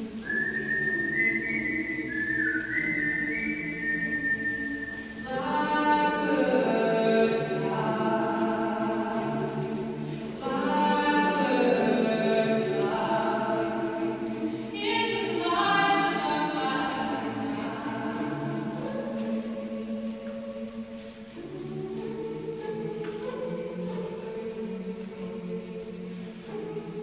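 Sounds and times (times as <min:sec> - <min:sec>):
mixed choir singing a cappella: 0:00.0 - 0:27.0.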